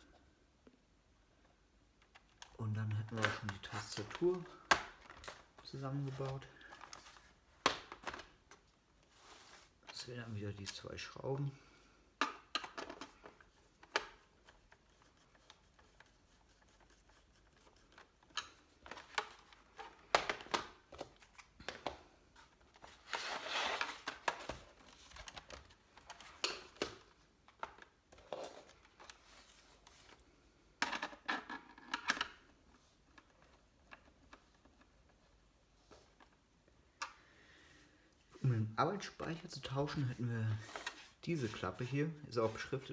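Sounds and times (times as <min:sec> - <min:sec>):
laptop being handled: 0:02.0 - 0:10.1, 0:12.2 - 0:37.2, 0:39.9 - 0:42.9.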